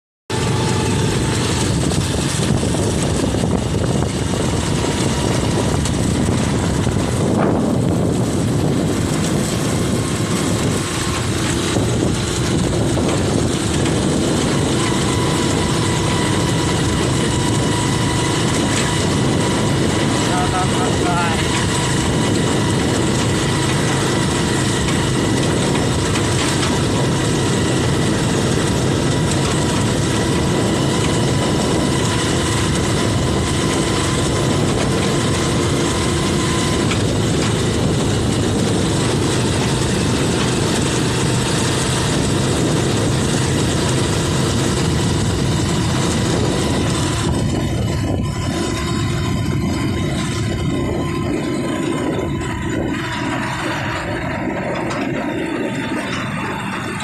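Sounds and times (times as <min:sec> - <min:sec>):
motorcycle engine running: 0:00.3 - 0:57.0
road and wind noise: 0:00.3 - 0:57.0.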